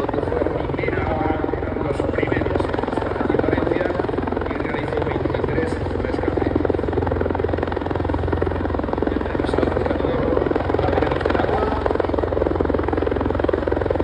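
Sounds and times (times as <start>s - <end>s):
helicopter engine drone: 0.0s - 14.0s
helicopter rotor beat: 0.0s - 14.0s.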